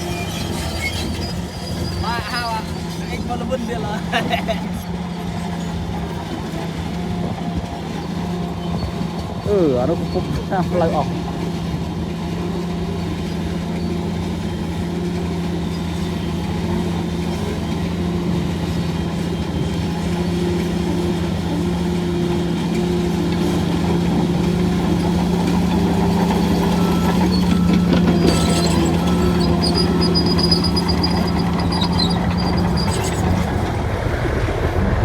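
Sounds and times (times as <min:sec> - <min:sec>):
heavy diesel engine humming: 0:00.0 - 0:35.0.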